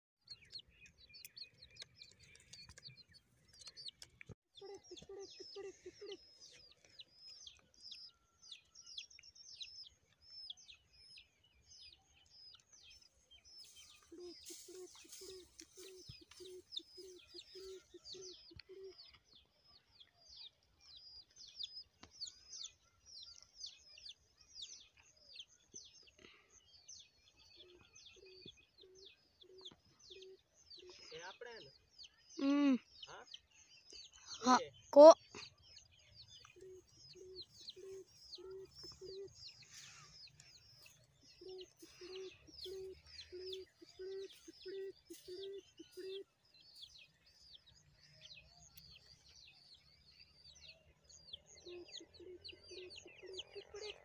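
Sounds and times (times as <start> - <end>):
small birds chirping: 0.2 - 54.0
low evenly spaced bird notes: 4.8 - 54.0.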